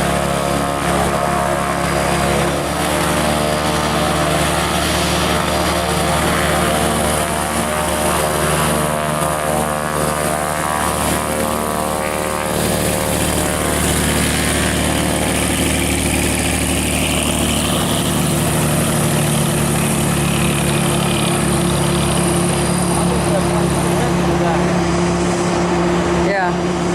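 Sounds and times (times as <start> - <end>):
propeller aircraft engine drone: 0.0 - 26.9.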